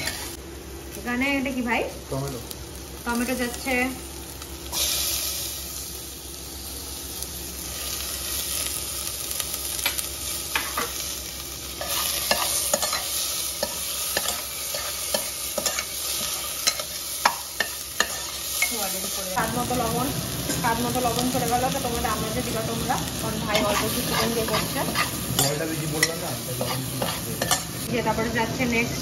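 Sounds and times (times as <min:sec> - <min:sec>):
vegetables sizzling in oil: 0:00.0 - 0:29.0.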